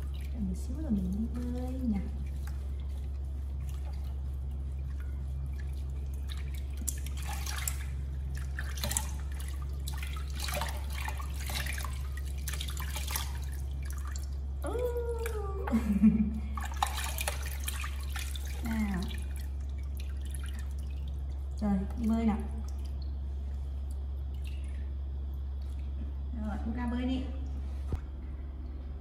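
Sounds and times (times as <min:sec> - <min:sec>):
water splashing in a basin: 0:00.0 - 0:27.4
steady low hum: 0:00.0 - 0:29.0.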